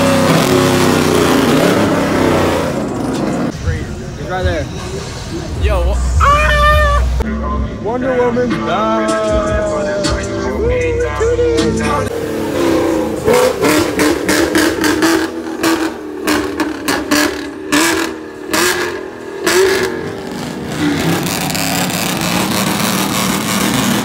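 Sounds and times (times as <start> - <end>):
car engine revving: 0.0 - 6.2, 9.5 - 24.0.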